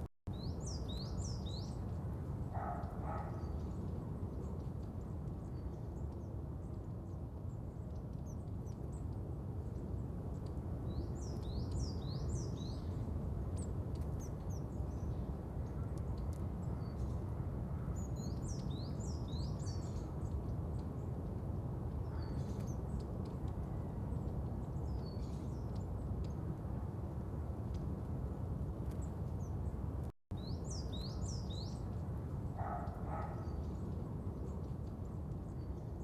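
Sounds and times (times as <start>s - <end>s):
small birds chirping: 0.3s - 36.0s.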